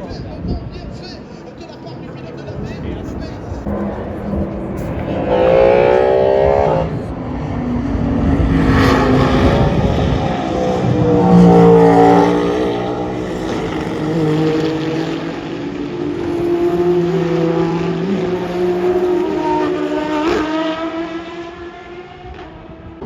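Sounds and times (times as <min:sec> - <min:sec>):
race cars passing at speed: 0:00.0 - 0:23.0.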